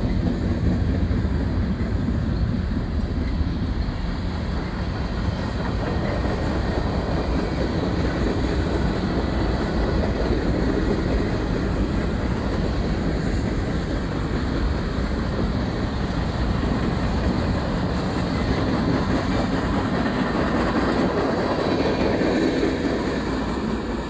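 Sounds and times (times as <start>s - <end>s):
freight train rolling by: 0.0s - 24.0s.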